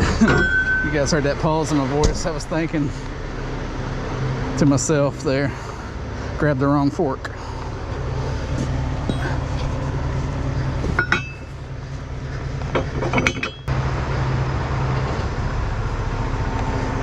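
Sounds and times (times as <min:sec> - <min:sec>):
steel tow forks clanking: 0:00.0 - 0:13.7.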